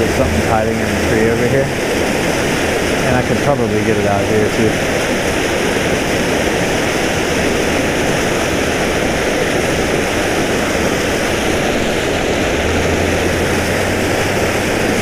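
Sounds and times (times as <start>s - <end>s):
water pouring from a pipe: 0.0s - 15.0s.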